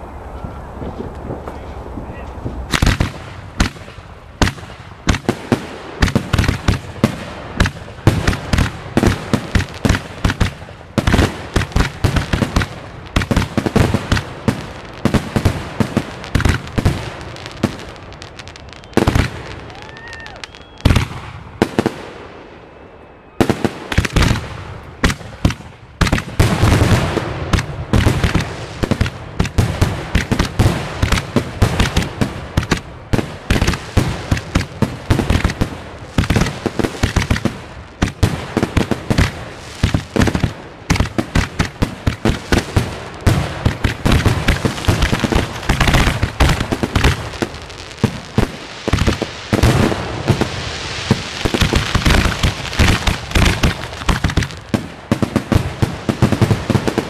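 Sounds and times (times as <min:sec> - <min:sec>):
fireworks bursting and crackling: 0:00.0 - 0:22.8, 0:23.4 - 0:57.0.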